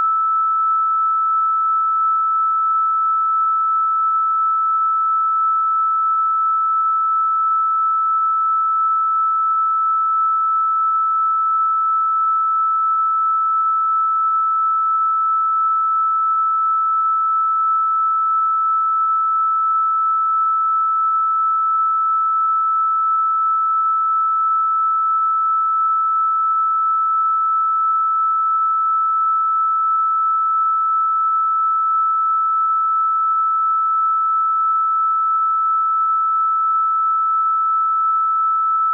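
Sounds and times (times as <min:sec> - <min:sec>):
electronic sine tone: 0:00.0 - 0:38.9.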